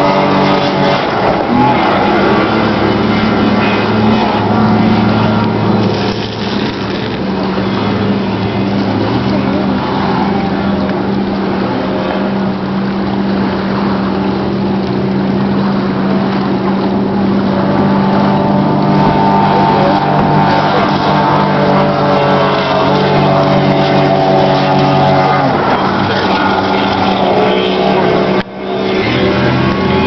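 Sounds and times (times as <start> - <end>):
speedboat engines droning: 0.0 - 30.0.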